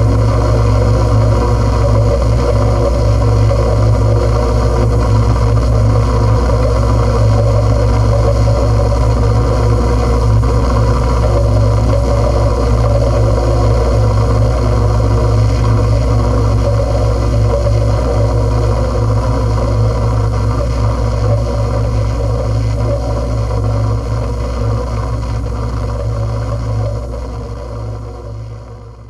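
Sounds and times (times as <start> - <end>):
noise music drone: 0.0 - 29.0.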